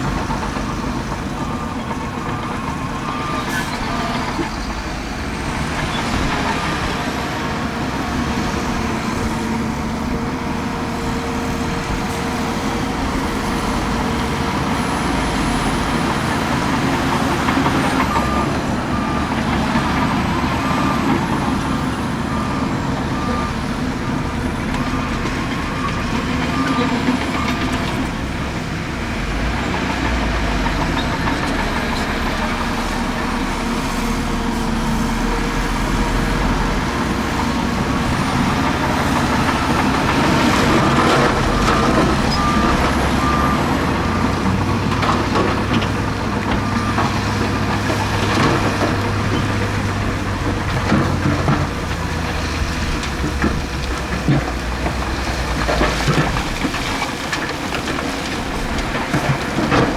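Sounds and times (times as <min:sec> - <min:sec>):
diesel earthmoving machines running: 0:00.0 - 0:59.9
reversing alarm beeps: 0:00.1 - 0:10.4, 0:11.0 - 0:28.1, 0:30.9 - 0:53.7.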